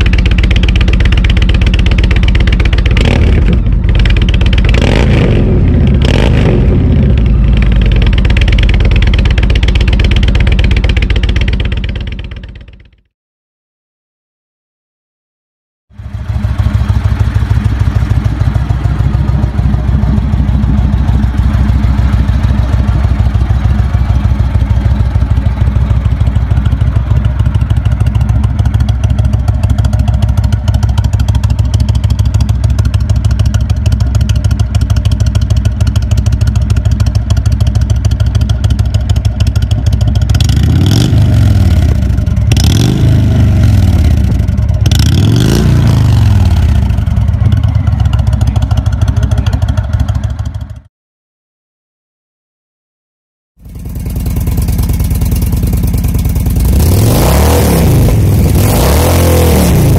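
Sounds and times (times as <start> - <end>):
motorcycle engine idling and revving: 0.0 - 13.1, 15.9 - 50.9, 53.6 - 59.9.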